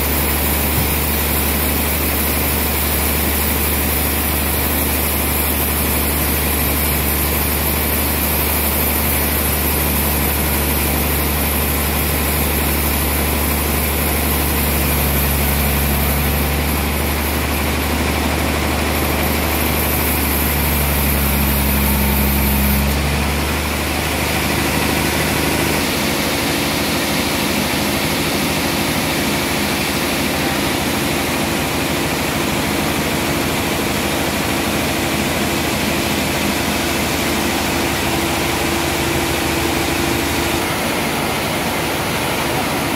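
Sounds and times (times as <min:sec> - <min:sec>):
band saw running: 0:00.0 - 0:42.9.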